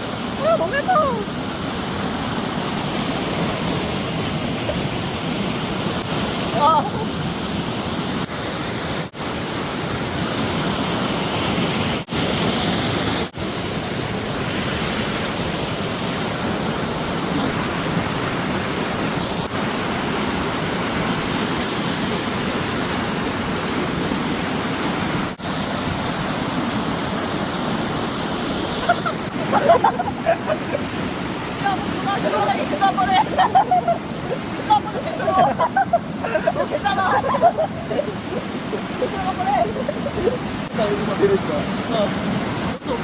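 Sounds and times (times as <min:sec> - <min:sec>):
stream rushing over rocks: 0:00.0 - 0:43.0.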